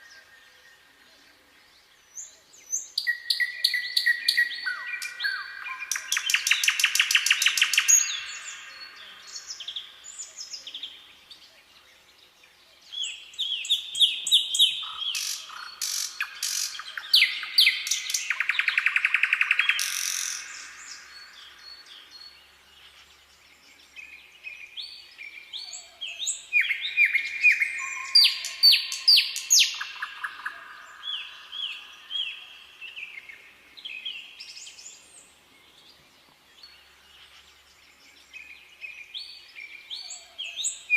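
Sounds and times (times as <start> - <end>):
songbirds singing trills: 0.0 - 40.9.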